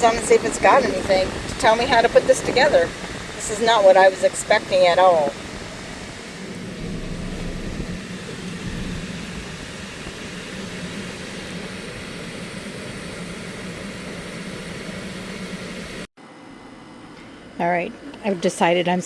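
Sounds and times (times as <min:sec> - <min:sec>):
mechanical drone with hiss: 0:00.0 - 0:16.1.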